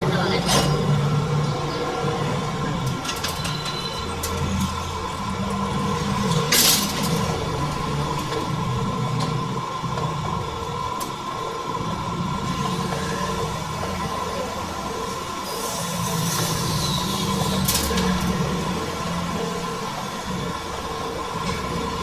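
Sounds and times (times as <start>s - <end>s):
metal lathe humming: 0.0s - 22.0s.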